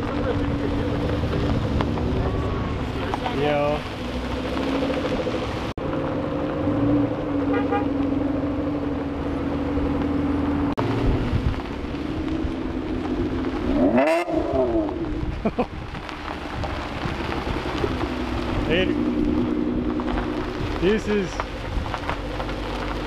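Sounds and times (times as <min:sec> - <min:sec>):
car engine revving: 0:00.0 - 0:23.0
sports car engine running: 0:00.0 - 0:23.0.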